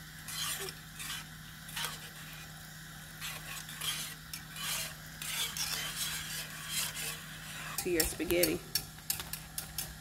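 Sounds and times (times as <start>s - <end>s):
whisk scraping through sauce: 0.2s - 9.9s.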